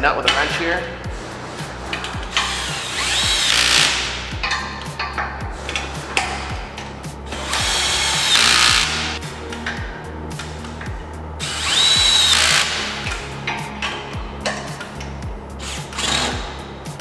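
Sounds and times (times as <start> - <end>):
power driver whining: 1.1 - 4.7, 5.6 - 16.6.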